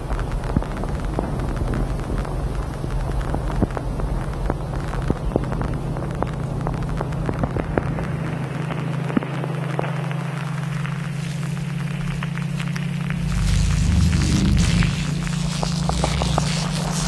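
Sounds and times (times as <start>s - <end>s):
sharp crackles and clicks: 0.0s - 17.0s
steady low hum: 0.0s - 17.0s.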